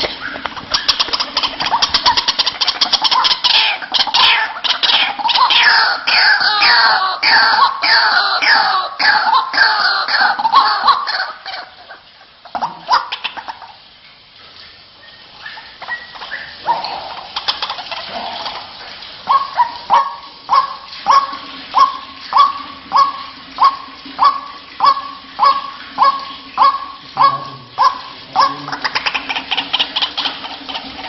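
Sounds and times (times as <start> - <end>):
waterhen calling: 0.0 - 31.0.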